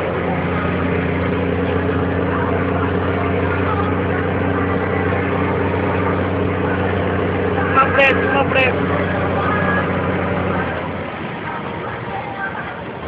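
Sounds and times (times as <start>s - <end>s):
road noise: 0.0s - 13.0s
truck diesel engine running: 0.0s - 13.0s.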